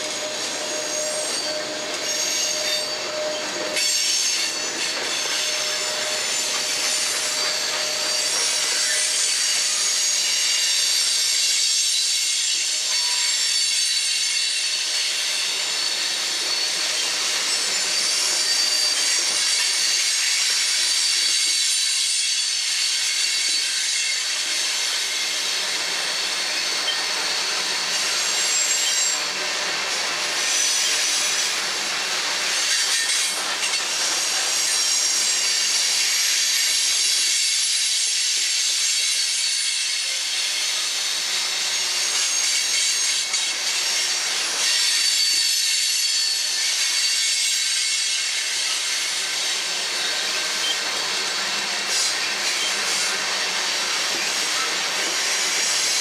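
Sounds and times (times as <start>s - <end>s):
rail cars rolling: 0.0s - 56.0s
train wheels squealing: 0.0s - 56.0s.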